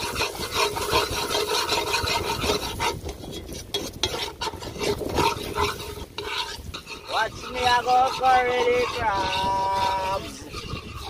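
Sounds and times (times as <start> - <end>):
metal spoon scraping a pot: 0.0 - 11.0
oil sizzling: 0.0 - 11.0.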